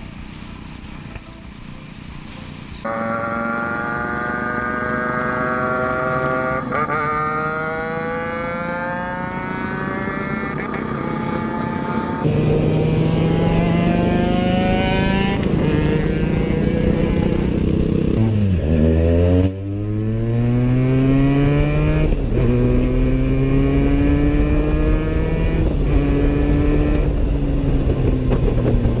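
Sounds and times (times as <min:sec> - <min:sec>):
motorcycle engine shifting gears: 0:01.9 - 0:29.0.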